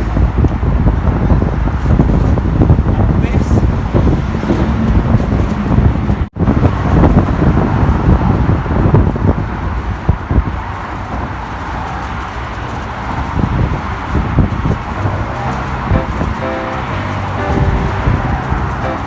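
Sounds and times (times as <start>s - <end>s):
road traffic: 0.0s - 19.0s
wind buffeting microphone: 0.0s - 19.0s.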